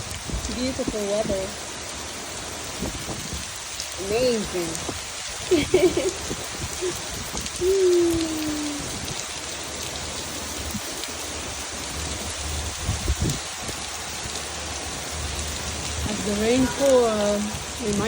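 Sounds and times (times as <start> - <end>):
steady rainfall: 0.0 - 18.0.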